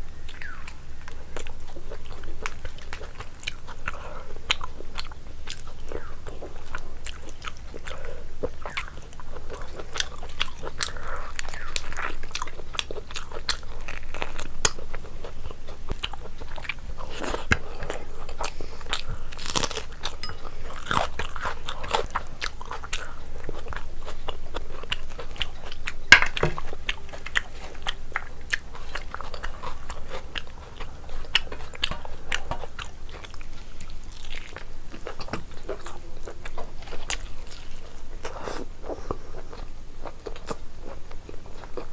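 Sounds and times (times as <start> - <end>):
person chewing food: 0.2 - 41.9.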